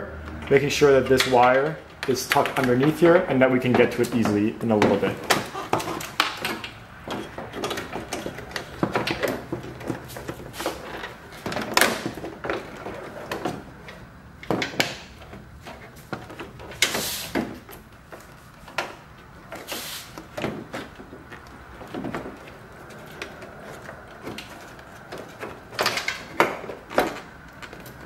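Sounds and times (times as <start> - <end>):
plastic scraping against car: 3.8 - 14.1, 15.0 - 28.0.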